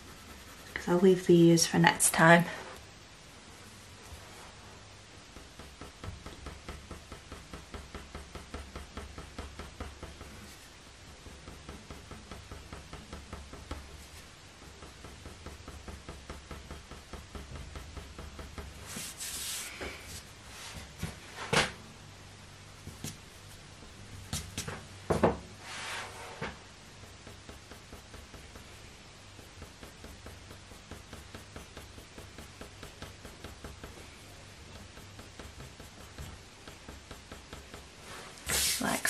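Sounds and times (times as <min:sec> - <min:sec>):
coloured pencil strokes on paper: 0:00.0 - 0:02.7, 0:03.6 - 0:21.2, 0:27.0 - 0:39.0.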